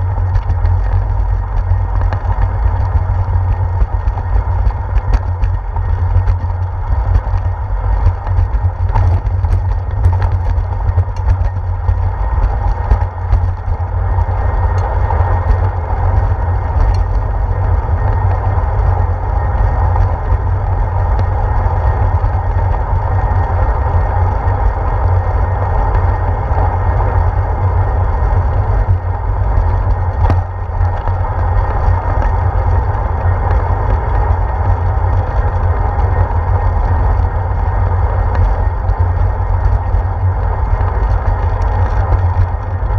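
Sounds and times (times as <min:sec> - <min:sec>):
bicycle clicks and knocks: 0:00.0 - 0:19.0, 0:19.6 - 0:42.9
wind and road rumble: 0:00.0 - 0:42.9.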